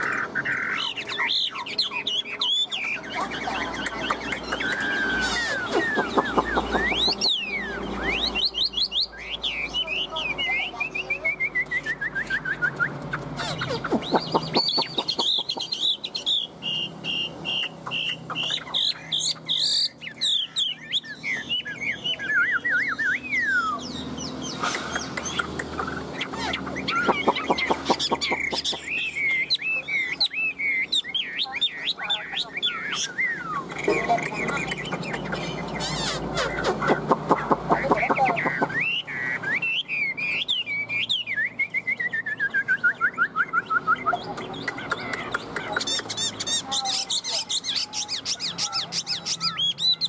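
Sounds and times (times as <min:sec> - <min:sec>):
bird singing varied song: 0:00.0 - 0:50.0.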